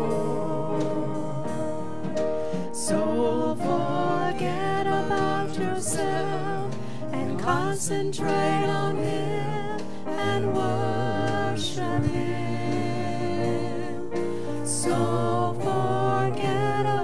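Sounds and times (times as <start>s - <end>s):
keyboard chords: 0.0s - 17.0s
man and woman singing gospel: 0.0s - 17.0s.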